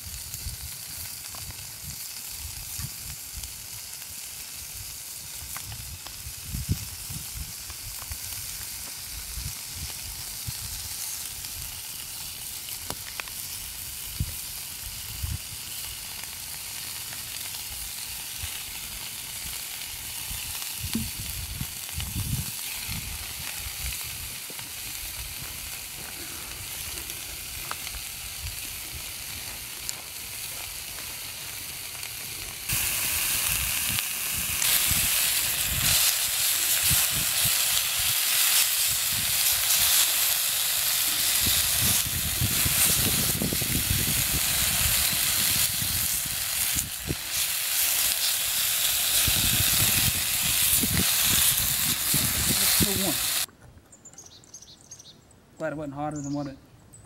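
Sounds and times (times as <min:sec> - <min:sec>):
ham sizzling in a skillet: 0:00.0 - 0:53.5.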